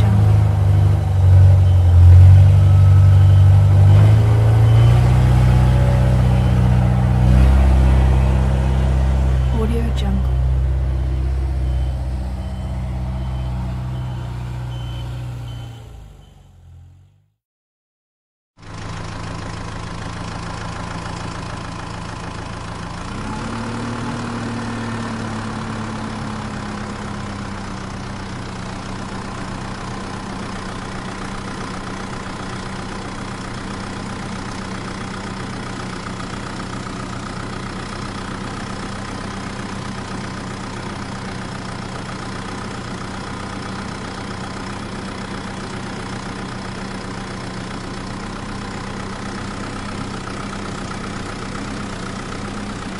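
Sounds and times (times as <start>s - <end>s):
tractor engine idling: 0.0s - 16.1s, 18.6s - 52.9s
louder engine sound: 0.0s - 17.4s, 18.6s - 52.9s.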